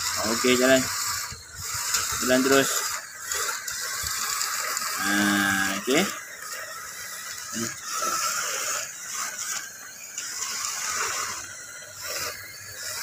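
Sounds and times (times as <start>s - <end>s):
robot drive motors whining: 0.0s - 13.0s
wheels and brushes scraping tiles: 0.0s - 13.0s.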